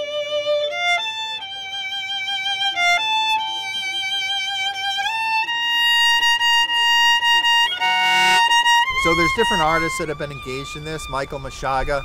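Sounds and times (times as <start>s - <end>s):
solo violin slow melody: 0.0s - 12.0s.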